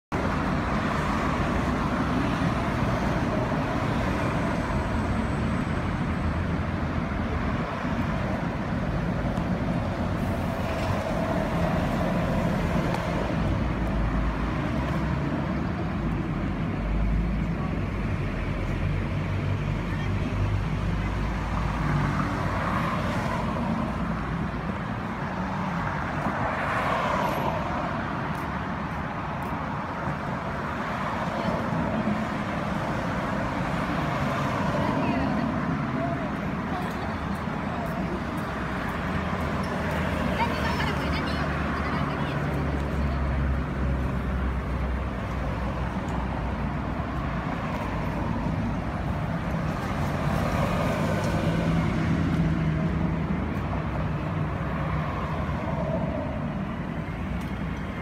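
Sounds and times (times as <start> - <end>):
car engines and tyres passing: 0.1 - 58.0.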